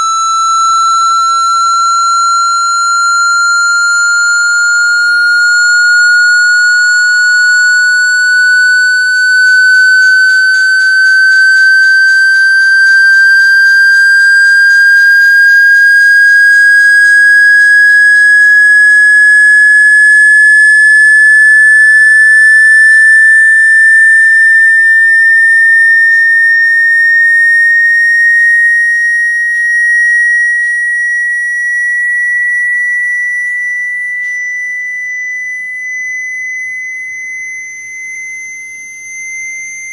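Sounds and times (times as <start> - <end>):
electronic sine tone rising: 0.0 - 39.9.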